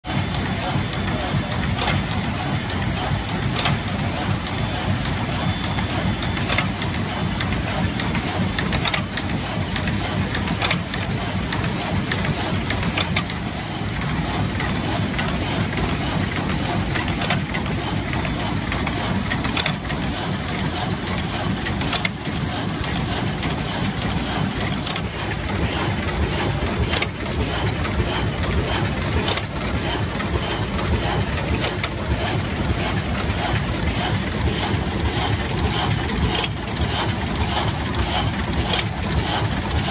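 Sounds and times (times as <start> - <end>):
die cutter machine running: 0.0 - 39.9
sharp mechanical clicks: 0.1 - 39.9.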